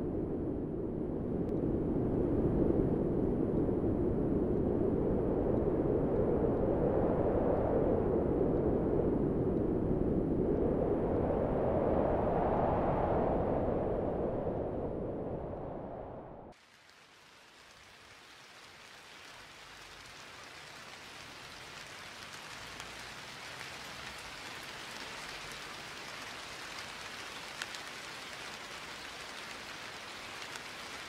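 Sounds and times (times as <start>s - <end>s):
rain: 0.0s - 31.0s
wind: 0.0s - 31.0s.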